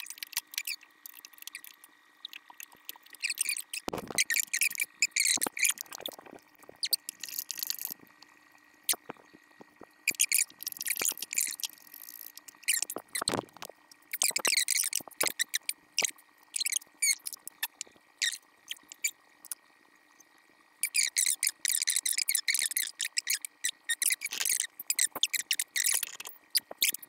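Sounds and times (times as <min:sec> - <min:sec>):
ratchet clicking and squeaking: 0:00.0 - 0:06.2, 0:06.8 - 0:08.0, 0:10.0 - 0:19.6, 0:20.8 - 0:27.0.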